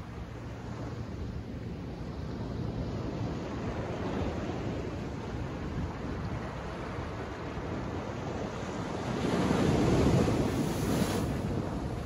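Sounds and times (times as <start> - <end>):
surf washing up sand: 2.3 - 12.0.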